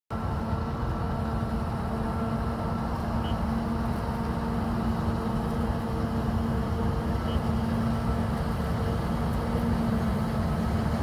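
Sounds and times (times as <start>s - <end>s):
constant low hum: 0.1s - 11.0s
tractor diesel engine rumble: 0.1s - 11.0s.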